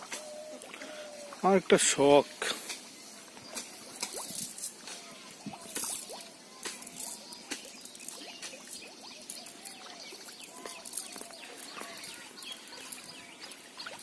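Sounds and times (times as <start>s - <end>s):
birds chirping and calling: 0.0s - 14.0s
rustles: 0.0s - 14.0s.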